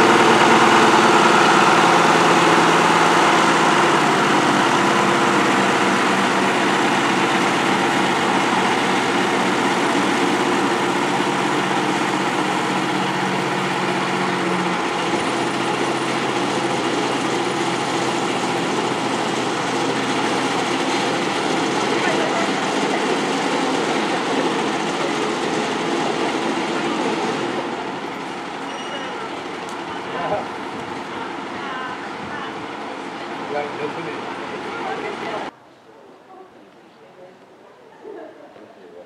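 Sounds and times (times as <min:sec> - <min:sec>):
diesel locomotive engine running: 0:00.0 - 0:35.6.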